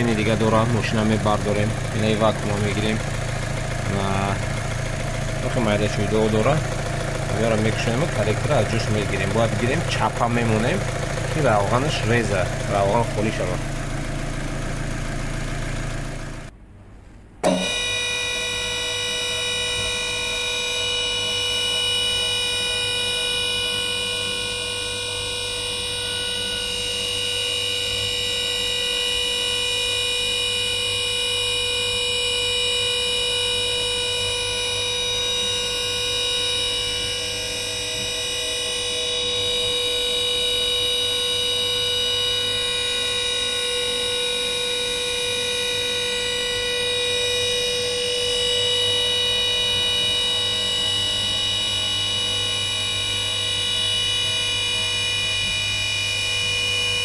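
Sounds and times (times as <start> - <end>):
steady electronic drone: 0.0 - 16.5, 17.4 - 57.0.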